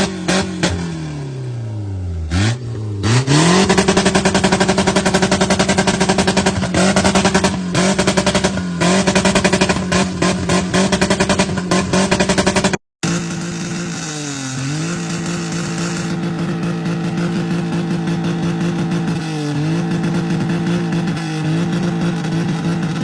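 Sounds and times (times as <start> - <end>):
car engine revving on limiter: 0.0 - 23.0.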